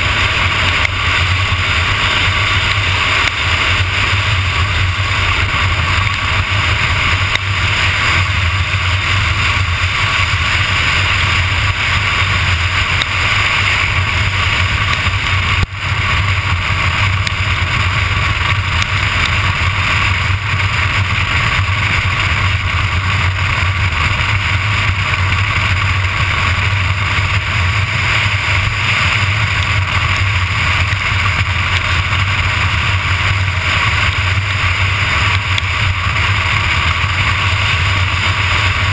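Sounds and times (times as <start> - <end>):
wheels rolling over asphalt: 0.0 - 38.9.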